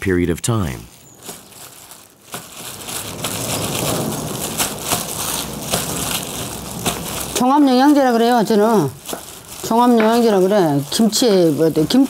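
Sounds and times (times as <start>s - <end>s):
wet crunching of cabbage leaves: 0.6s - 12.0s.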